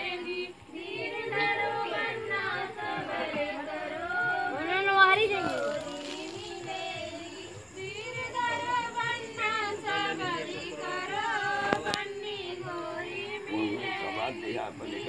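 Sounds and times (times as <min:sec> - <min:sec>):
women singing together: 0:00.0 - 0:15.0.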